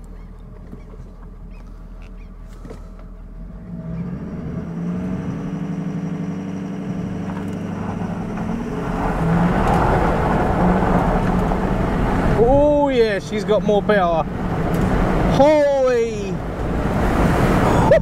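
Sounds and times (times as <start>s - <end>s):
diesel truck engine accelerating: 0.0s - 18.0s.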